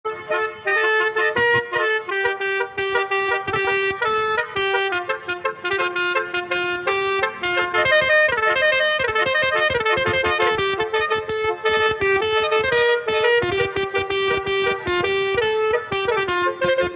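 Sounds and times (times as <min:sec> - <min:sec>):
musical bus horn melody: 0:00.0 - 0:16.9.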